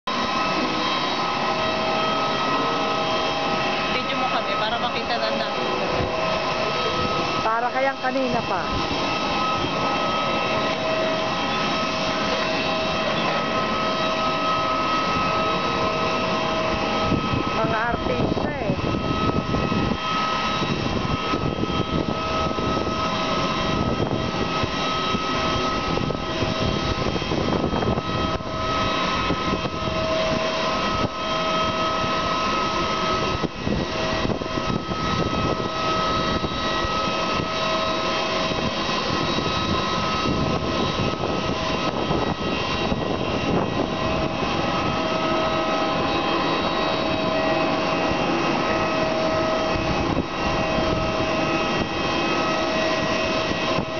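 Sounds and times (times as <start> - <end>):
jet turbine whine: 0.0 - 53.9
wind buffeting microphone: 0.1 - 53.9.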